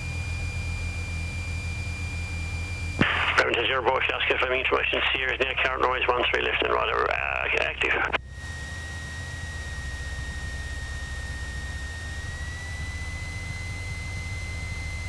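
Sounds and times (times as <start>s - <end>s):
piston aircraft engine droning: 0.0s - 15.0s
steady high whine: 0.0s - 15.0s.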